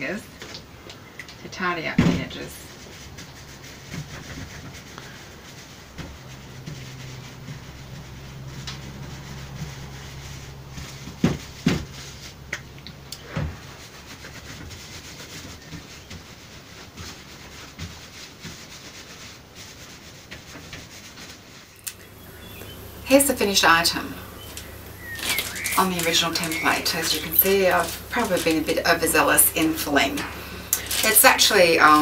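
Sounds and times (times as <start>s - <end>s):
steady low hum: 0.0s - 17.5s, 21.8s - 32.0s
hands rubbing wet felt: 2.3s - 32.0s.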